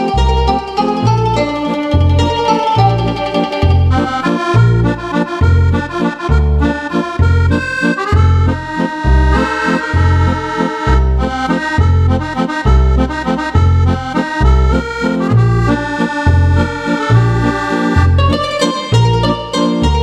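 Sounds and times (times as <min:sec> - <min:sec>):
accordion playing a tune: 0:00.0 - 0:20.0.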